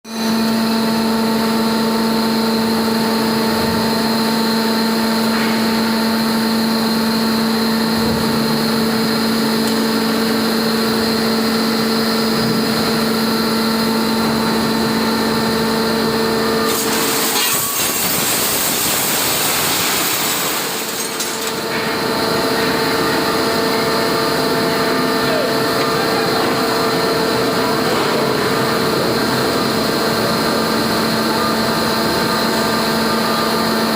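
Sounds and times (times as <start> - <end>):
metal baler humming and whining: 0.1 - 33.9.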